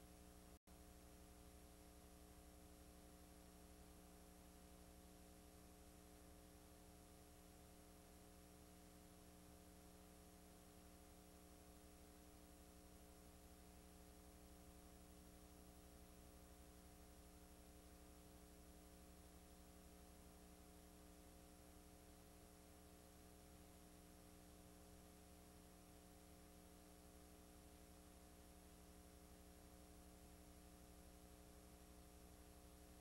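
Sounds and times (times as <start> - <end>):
faint electrical hum with hiss: 0.0 - 33.0.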